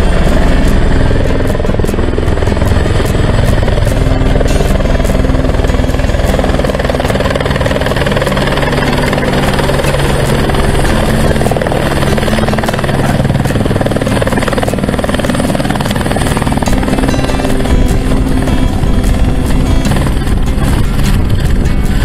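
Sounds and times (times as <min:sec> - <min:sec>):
helicopter rotor and engine: 0:00.0 - 0:22.0.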